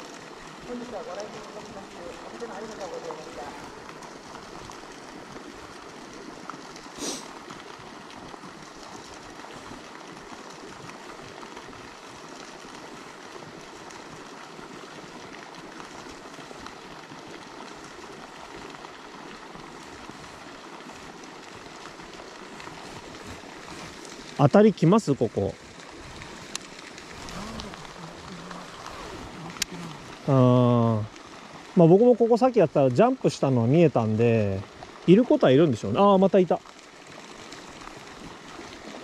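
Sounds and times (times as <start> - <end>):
running water: 0.0 - 39.0.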